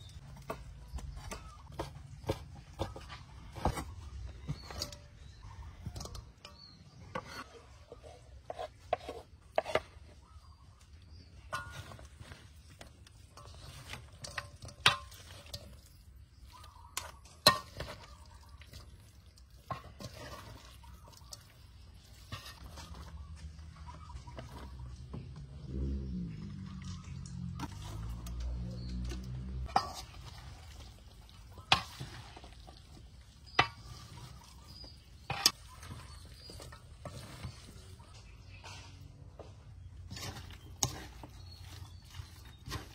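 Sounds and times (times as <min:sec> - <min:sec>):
wet mixing in a bowl: 0:00.0 - 0:42.9.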